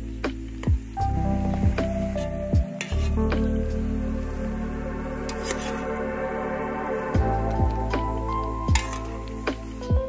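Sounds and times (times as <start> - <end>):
deep electronic beat: 0.2 - 4.9, 6.0 - 10.0.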